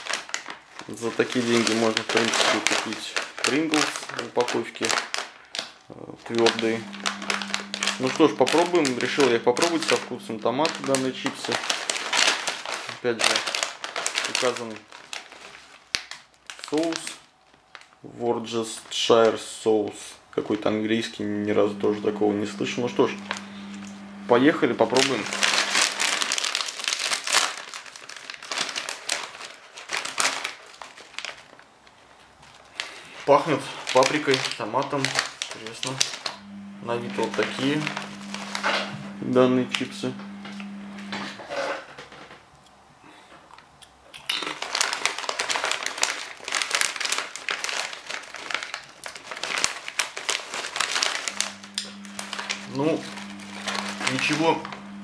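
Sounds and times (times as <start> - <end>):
plastic crisp packet crinkling: 0.0 - 20.0, 20.6 - 41.4, 43.4 - 55.0.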